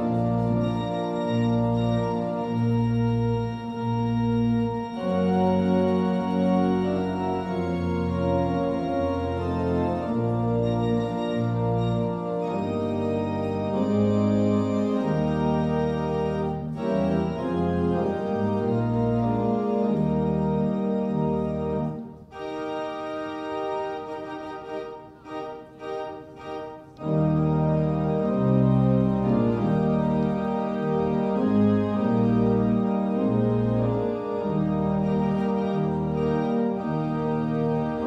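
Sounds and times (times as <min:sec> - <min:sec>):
organ playing slow chords: 0:00.0 - 0:38.0.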